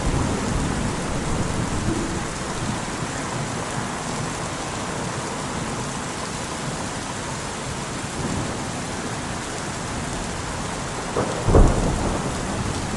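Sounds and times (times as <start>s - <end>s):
heavy rain hissing: 0.0s - 5.8s, 6.7s - 12.9s.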